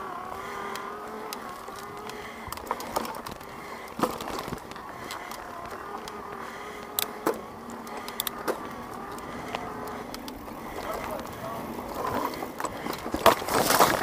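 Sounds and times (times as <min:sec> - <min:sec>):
electric bike motor whining: 0:00.0 - 0:13.3
tyres rattling on dirt trail: 0:00.0 - 0:14.0
bike knocking over bumps: 0:00.1 - 0:14.0.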